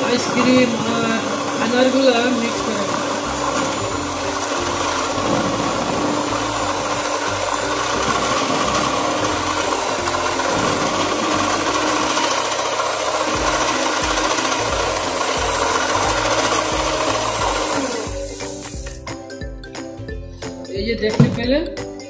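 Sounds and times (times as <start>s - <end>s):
electric hand mixer running: 0.0s - 19.3s.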